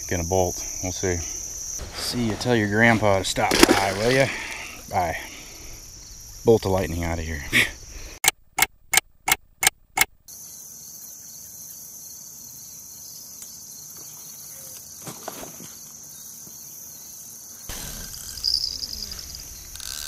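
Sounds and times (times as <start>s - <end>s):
crickets chirring: 0.0s - 8.2s, 10.3s - 20.0s.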